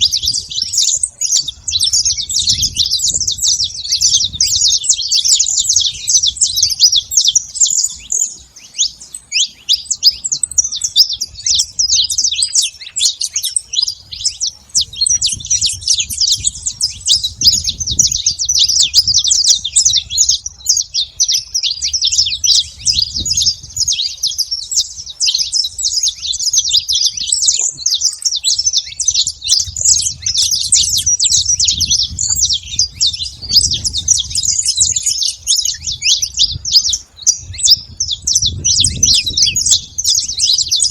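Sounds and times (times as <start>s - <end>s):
finch singing high chirps: 0.0s - 40.9s.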